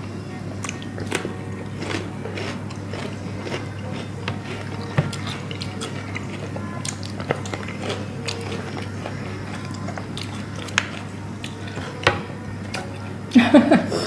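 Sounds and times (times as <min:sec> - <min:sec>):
steady low hum: 0:00.0 - 0:14.0
chewing and biting: 0:00.6 - 0:12.0.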